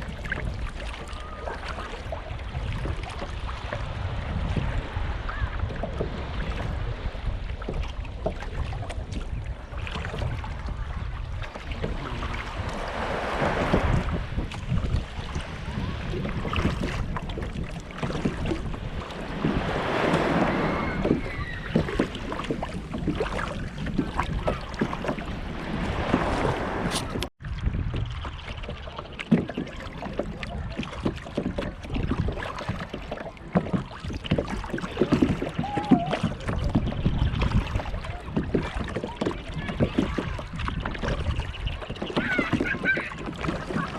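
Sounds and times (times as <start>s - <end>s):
water splashing around kayak: 0.0s - 43.9s
wind buffeting microphone: 0.0s - 43.9s.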